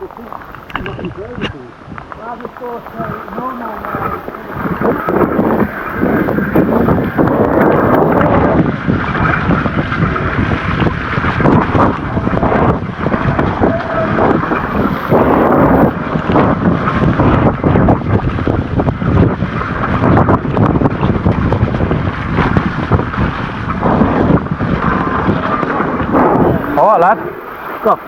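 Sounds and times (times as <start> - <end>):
bike knocking and rattling: 0.0 - 27.2
wind buffeting microphone: 0.0 - 28.0.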